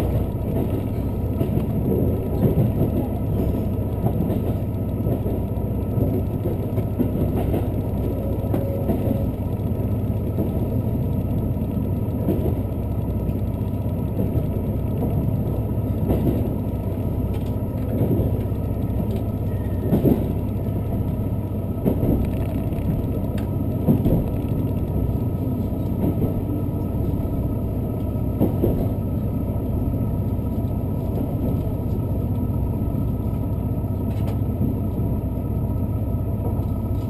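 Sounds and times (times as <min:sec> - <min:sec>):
train wheels rumbling: 0:00.0 - 0:37.0
wheels clacking over rail joints: 0:00.0 - 0:37.0.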